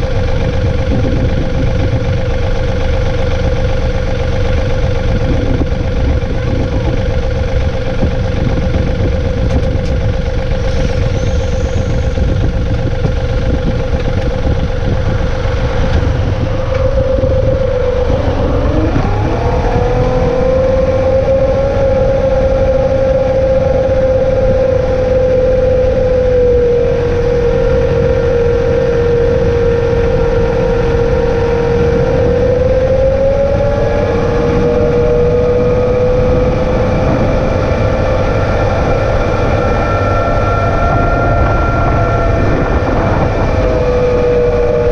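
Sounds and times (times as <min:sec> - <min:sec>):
engine whine: 0:00.0 - 0:44.9
tractor diesel engine under load: 0:00.0 - 0:44.9.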